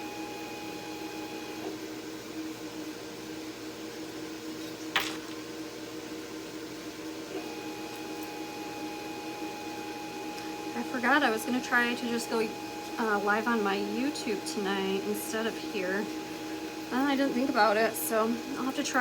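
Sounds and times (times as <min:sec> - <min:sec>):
cutting machine humming: 0:00.0 - 0:19.0.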